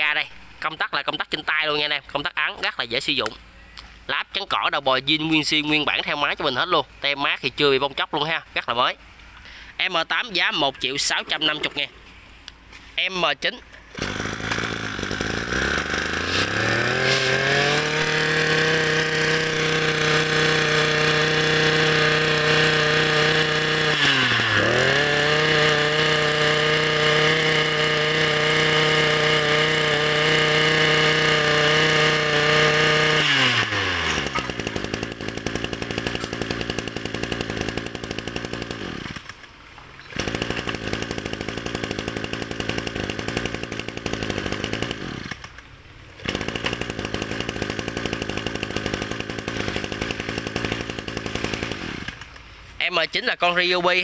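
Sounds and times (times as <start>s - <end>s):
brush cutter engine revving: 0.1s - 54.0s.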